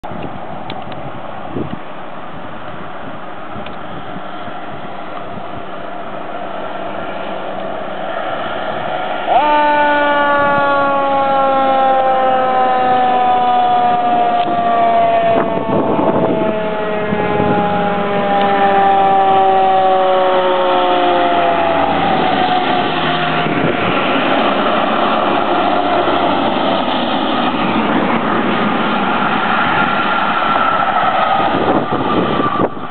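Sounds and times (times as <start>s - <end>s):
fire truck siren: 3.6s - 32.9s
heavy trucks driving past: 4.0s - 32.9s.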